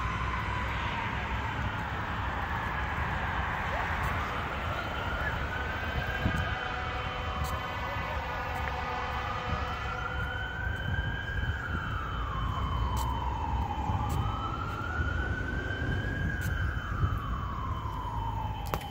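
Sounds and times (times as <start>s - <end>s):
siren wailing: 0.0s - 18.9s.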